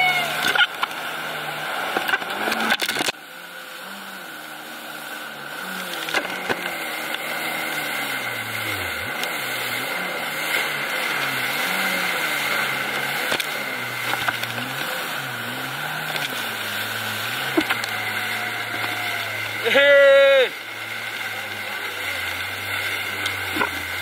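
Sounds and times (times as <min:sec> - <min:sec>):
jet ski engine: 0:00.0 - 0:24.0
water wash: 0:00.0 - 0:24.0.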